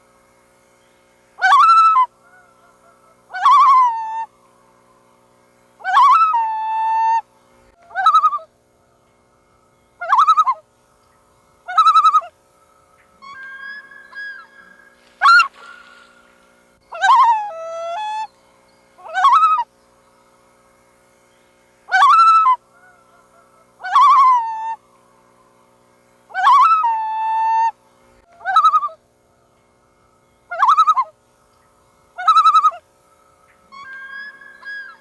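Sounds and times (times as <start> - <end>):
loons calling: 0.7 - 35.0.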